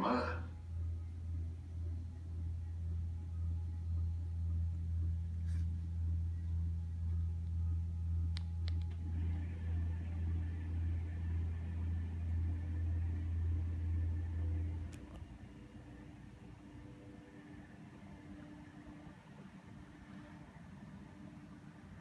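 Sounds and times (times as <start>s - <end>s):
motor humming with pulsing: 0.4s - 22.0s.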